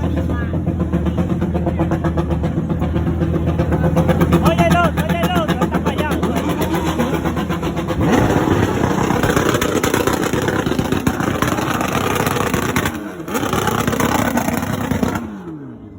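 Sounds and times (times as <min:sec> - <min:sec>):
motorcycle engine revving: 0:00.0 - 0:15.9.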